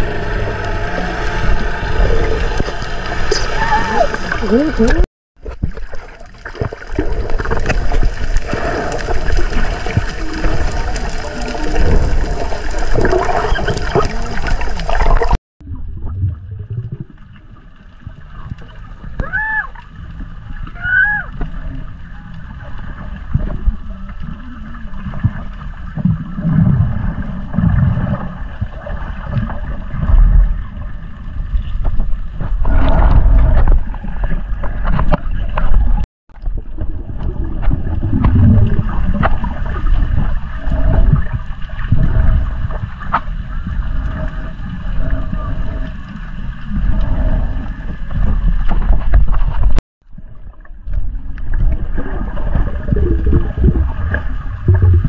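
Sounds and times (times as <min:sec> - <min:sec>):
steady motor hum underwater: 0:00.0 - 0:55.0
water sloshing underwater: 0:00.0 - 0:55.0.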